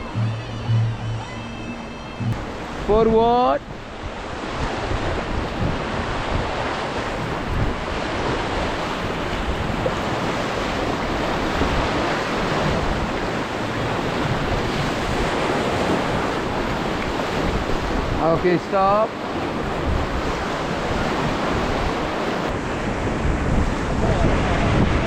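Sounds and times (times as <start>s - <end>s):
wind buffeting microphone: 2.2s - 18.4s, 19.2s - 25.0s.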